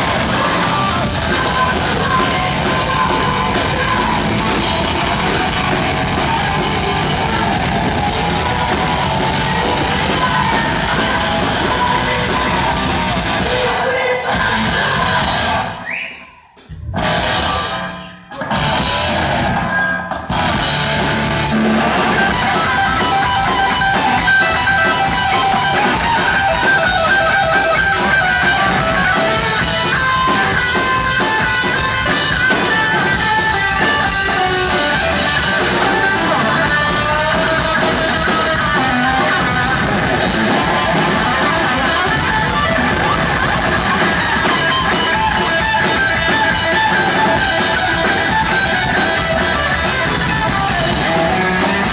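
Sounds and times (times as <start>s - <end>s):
electric guitar lead: 0.0s - 15.8s, 16.8s - 51.9s
heavy metal band playing live: 0.0s - 51.9s.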